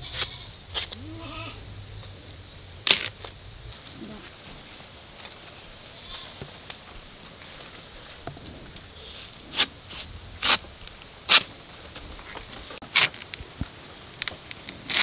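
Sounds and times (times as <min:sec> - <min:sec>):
dry leaves rustling underfoot: 0:00.0 - 0:15.0.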